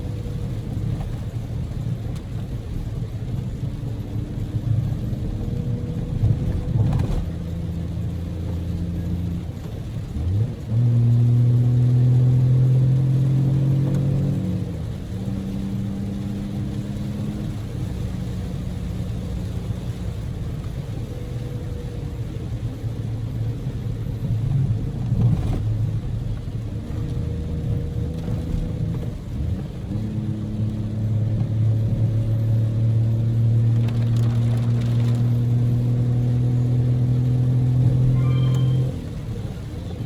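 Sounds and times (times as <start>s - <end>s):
car engine hum: 0.0s - 40.0s
tyre road noise: 0.0s - 40.0s.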